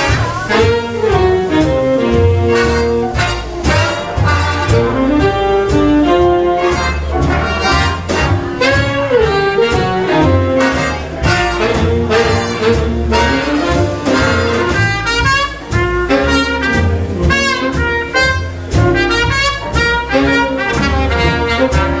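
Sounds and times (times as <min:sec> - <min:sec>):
big band swing music: 0:00.0 - 0:22.0.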